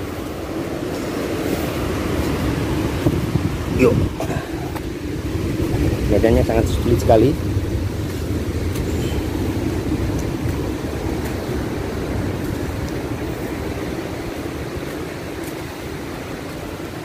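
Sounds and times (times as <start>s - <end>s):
heavy surf roaring: 0.0s - 17.0s
wind buffeting microphone: 0.0s - 17.0s.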